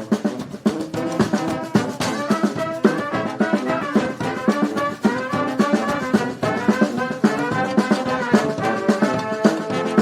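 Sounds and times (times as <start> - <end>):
brass band horns: 0.0 - 10.0
steady drum beat: 0.0 - 10.0.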